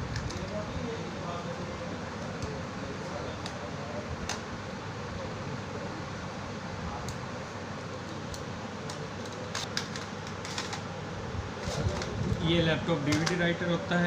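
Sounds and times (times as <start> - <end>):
fan or air conditioner hum: 0.0 - 14.0.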